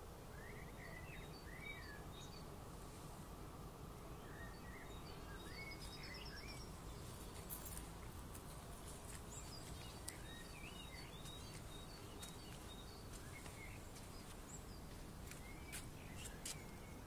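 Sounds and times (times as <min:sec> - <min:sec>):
faint low background hum: 0:00.0 - 0:17.0
small birds chirping: 0:00.3 - 0:03.1, 0:03.9 - 0:17.0.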